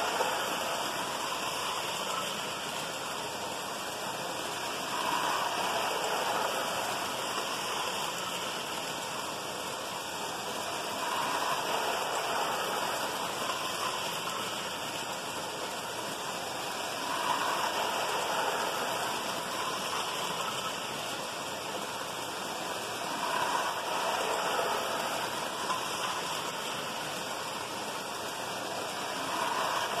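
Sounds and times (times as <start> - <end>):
toy trains rolling rumble: 0.0 - 30.0.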